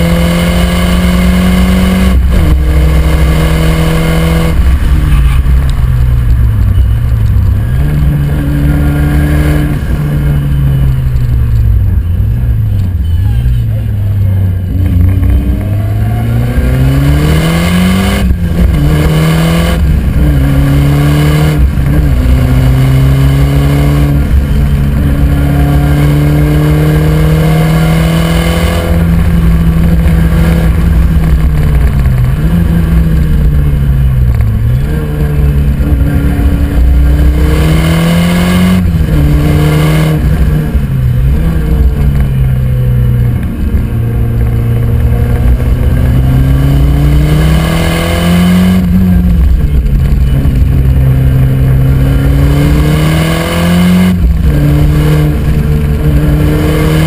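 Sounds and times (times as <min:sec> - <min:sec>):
car engine accelerating hard: 0:00.0 - 0:13.0, 0:13.7 - 0:57.0.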